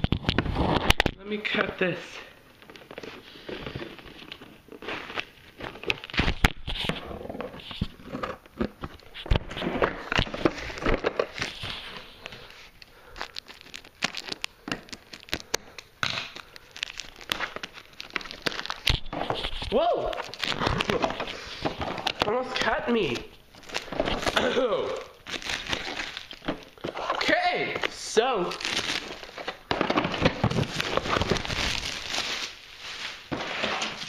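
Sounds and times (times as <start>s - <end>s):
plastic bags crinkling: 0.0s - 34.0s.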